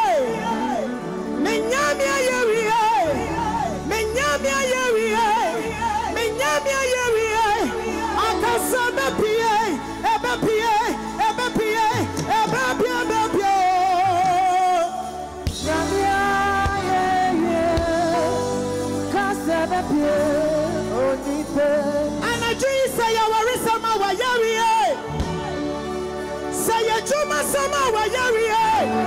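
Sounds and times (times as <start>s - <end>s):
woman singing gospel: 0.0s - 25.0s, 26.5s - 29.0s
band playing chords and bass: 0.0s - 29.0s.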